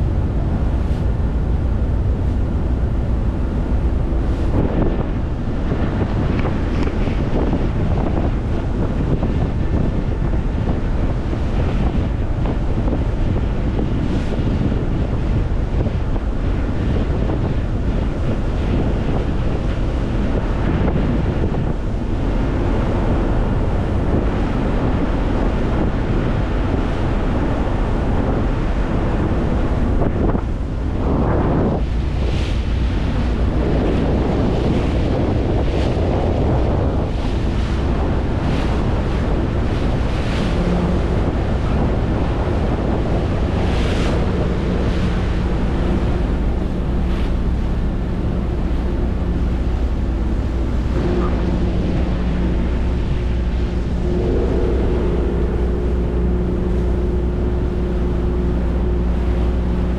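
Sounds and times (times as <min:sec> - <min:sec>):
low rumble: 0:00.0 - 0:59.9
rushing sea water: 0:00.0 - 0:59.9
wind buffeting microphone: 0:00.0 - 0:59.9.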